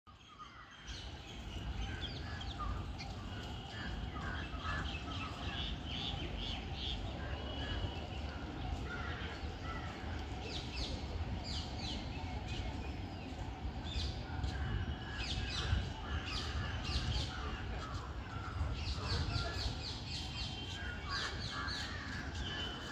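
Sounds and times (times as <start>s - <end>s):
squirrels and birds chirping: 0.5s - 22.9s
low wind rumble: 0.8s - 22.9s.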